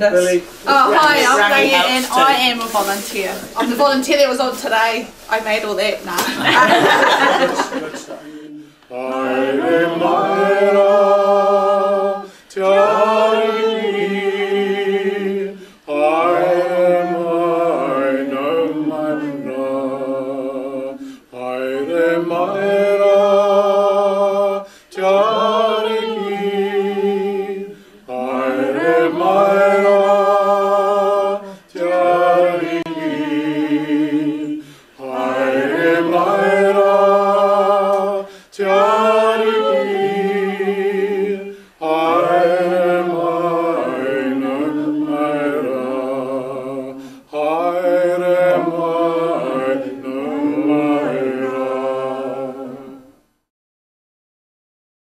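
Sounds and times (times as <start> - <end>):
person singing a cappella: 6.3 - 53.2.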